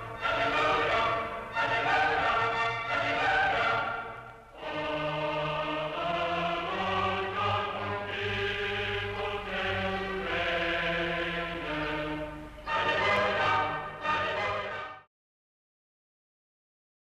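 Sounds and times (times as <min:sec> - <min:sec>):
choir singing held chords: 0:00.0 - 0:15.1
orchestral accompaniment: 0:00.0 - 0:15.1.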